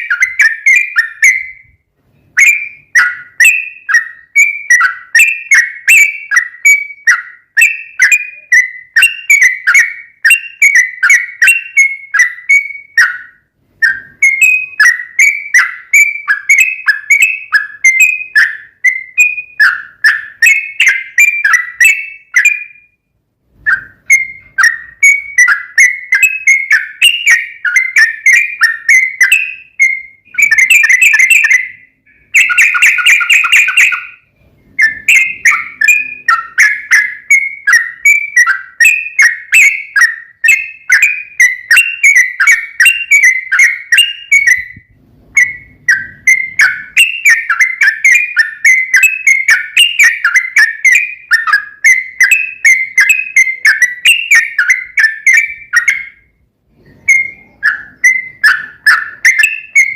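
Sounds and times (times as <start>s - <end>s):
bird song with bubbly chirping: 0.0s - 23.0s, 23.7s - 59.9s
rapid bird trills: 0.0s - 23.0s, 23.7s - 44.8s, 45.4s - 59.9s.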